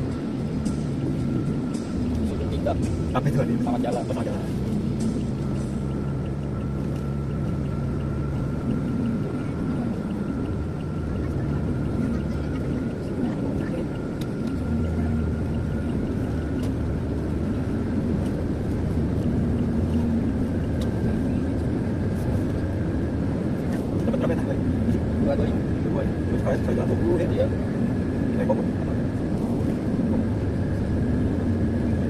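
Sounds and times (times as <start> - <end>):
engine and tyre drone: 0.0 - 32.0.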